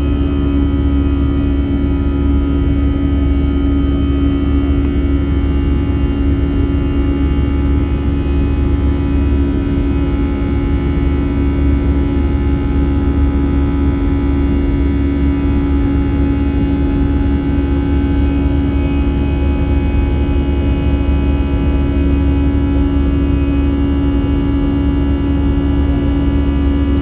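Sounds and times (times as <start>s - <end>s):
airplane cabin engine drone: 0.0s - 27.0s
steady whining tones: 0.0s - 27.0s.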